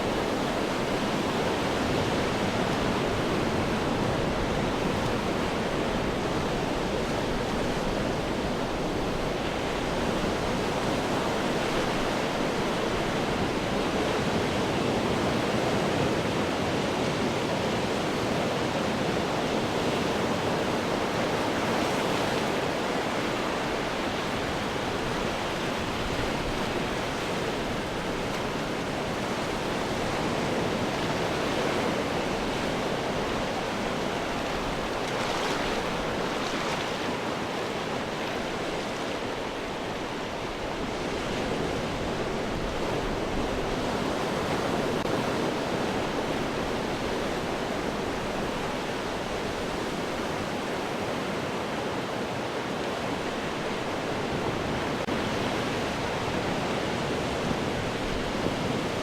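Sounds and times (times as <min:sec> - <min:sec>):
ocean waves crashing on rocks: 0:00.0 - 0:59.0.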